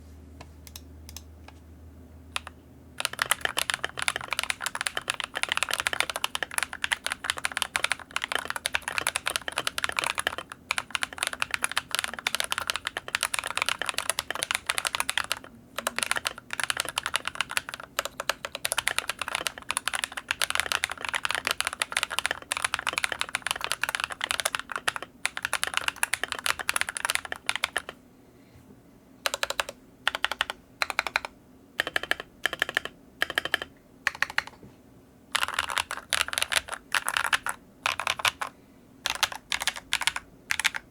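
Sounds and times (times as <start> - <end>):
mechanical keyboard typing: 2.4 - 28.0, 29.2 - 34.6, 35.3 - 40.9.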